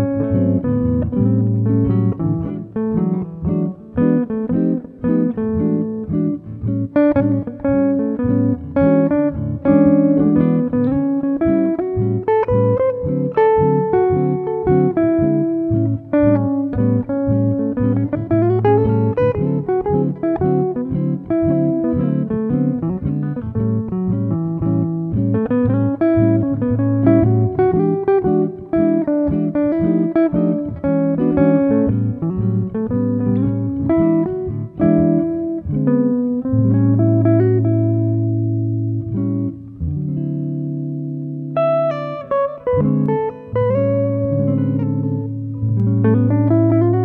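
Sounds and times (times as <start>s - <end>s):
plucked instrumental music: 0.0s - 47.0s
steady bass line: 0.0s - 47.0s.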